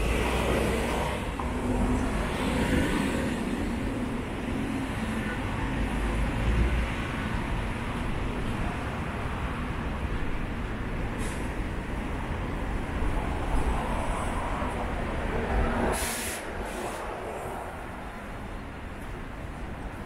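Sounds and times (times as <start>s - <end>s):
traffic on wet road: 0.0s - 20.0s.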